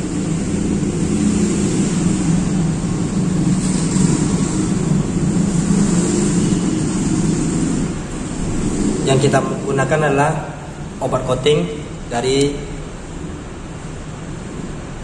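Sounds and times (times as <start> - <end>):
motor low rumble: 0.0 - 15.0.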